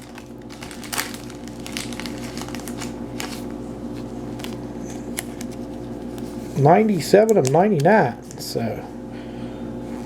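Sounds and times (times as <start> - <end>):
cards rustling and clicking: 0.0 - 8.4
steady low hum: 0.0 - 10.0.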